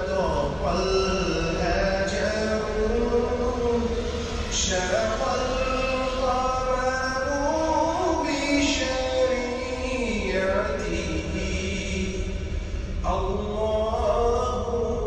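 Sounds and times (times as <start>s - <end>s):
voice chanting long held notes: 0.0s - 15.0s.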